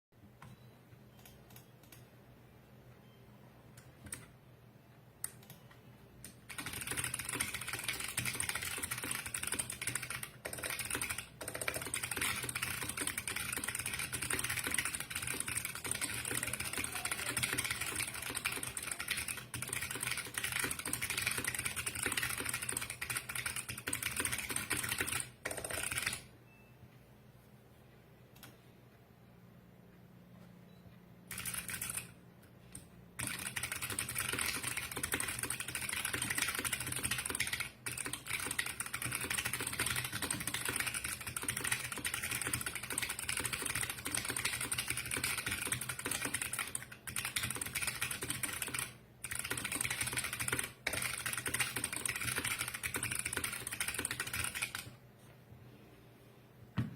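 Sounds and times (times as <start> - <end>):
clicky mechanical keyboard typing: 0.4 - 2.1, 3.8 - 4.4, 5.2 - 26.3, 31.3 - 55.0.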